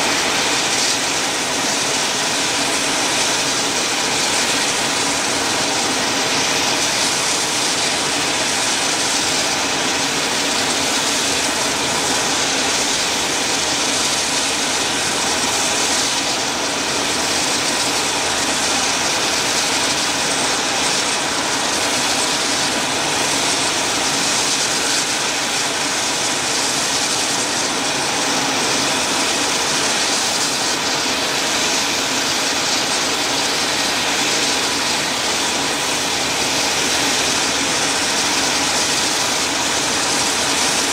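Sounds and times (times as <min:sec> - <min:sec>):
helicopter engines and rotors: 0:00.0 - 0:40.9.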